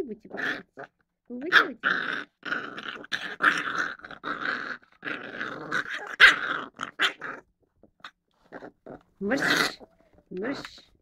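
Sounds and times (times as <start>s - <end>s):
dog growling: 0.3s - 11.0s.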